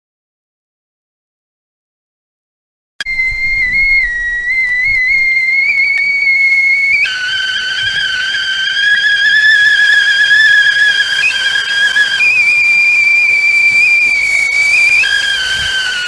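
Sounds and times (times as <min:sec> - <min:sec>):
tea kettle whistling: 0:03.0 - 0:16.0
steam hissing: 0:03.1 - 0:16.0.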